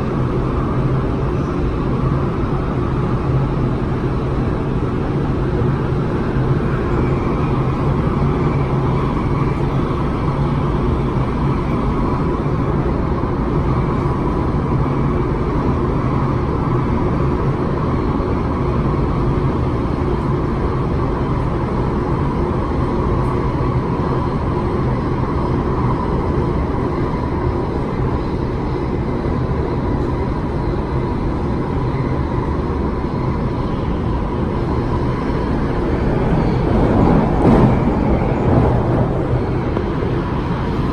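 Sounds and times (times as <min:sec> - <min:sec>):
steady hum: 0:00.0 - 0:40.9
train wheels rumbling on rail: 0:00.0 - 0:40.9.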